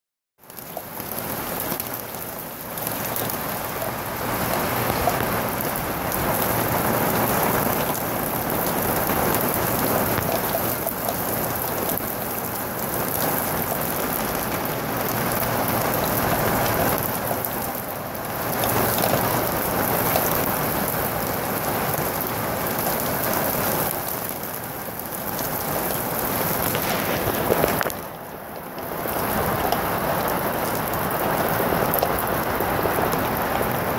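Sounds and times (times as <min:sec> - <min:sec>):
heavy rain and hail on pavement: 0:00.4 - 0:33.9.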